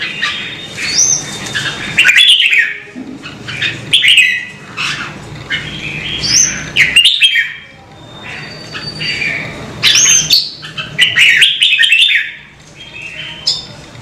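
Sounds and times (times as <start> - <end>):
bird warbling and whistling: 0.0 - 13.7.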